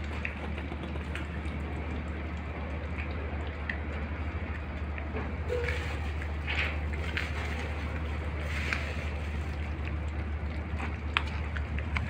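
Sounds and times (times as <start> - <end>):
puppies chewing meat: 0.0 - 12.0.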